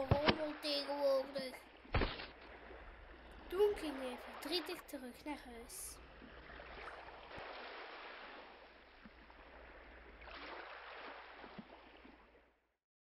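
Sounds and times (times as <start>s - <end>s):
sea waves washing onto beach: 0.0s - 12.4s.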